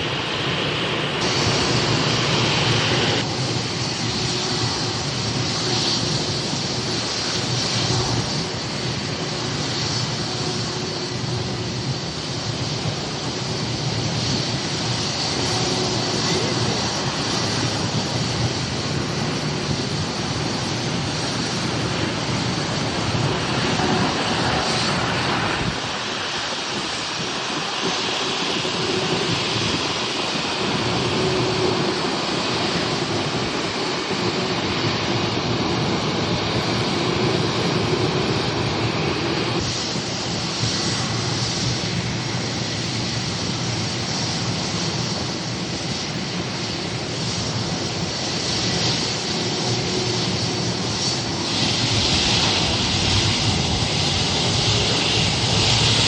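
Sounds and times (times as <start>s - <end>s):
airliner engines running: 0.0s - 56.0s.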